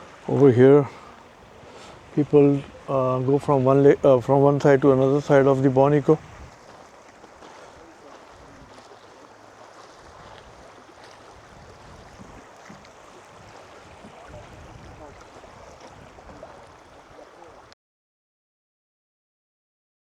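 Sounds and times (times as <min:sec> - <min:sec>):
wind on microphone: 0:00.0 - 0:09.1, 0:09.7 - 0:17.7
lapping lake water: 0:00.0 - 0:17.8.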